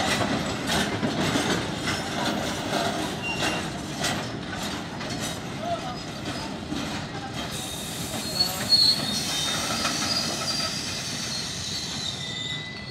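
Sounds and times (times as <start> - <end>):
freight train rolling past: 0.0 - 12.9
train wheels squealing: 1.4 - 4.4, 5.4 - 12.9.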